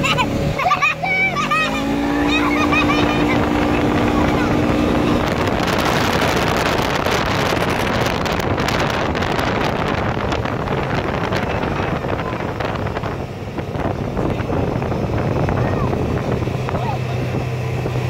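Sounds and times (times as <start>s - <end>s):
off-road vehicle engine running: 0.0s - 18.0s
wind buffeting microphone: 1.2s - 18.0s.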